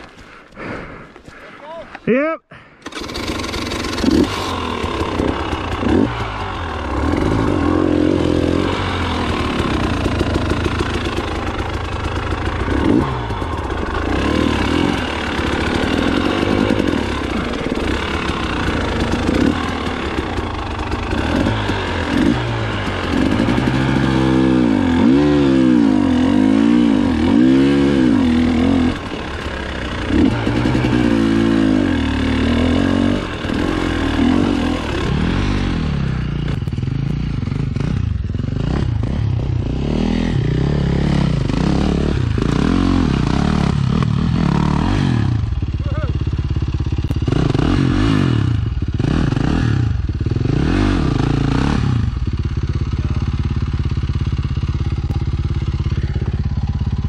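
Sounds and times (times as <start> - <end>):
dirt bike engine revving: 2.8 - 57.0.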